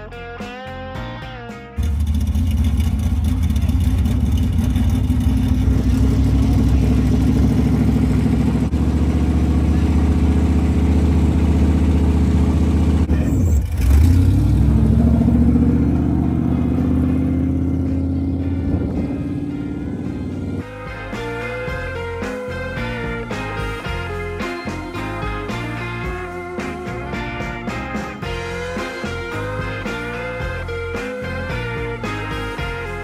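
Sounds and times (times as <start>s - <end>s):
race car engine rumbling: 1.8s - 33.0s.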